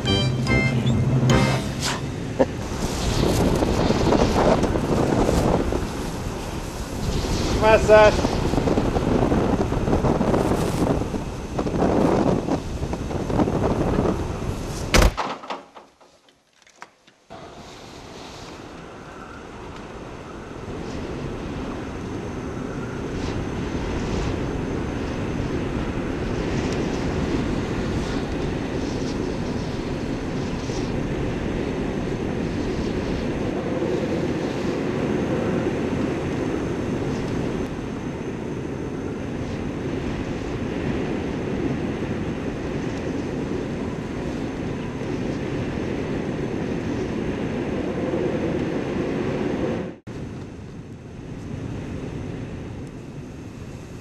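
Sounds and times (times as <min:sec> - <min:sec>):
strong wind on microphone: 0:00.0 - 0:15.1, 0:17.3 - 0:54.0.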